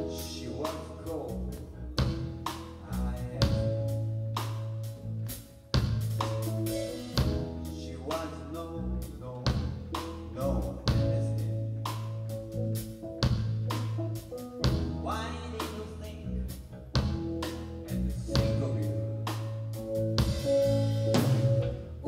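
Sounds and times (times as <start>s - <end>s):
drum kit: 0.0s - 22.0s
electric bass: 0.0s - 22.0s
keyboard chords and runs: 0.0s - 22.0s.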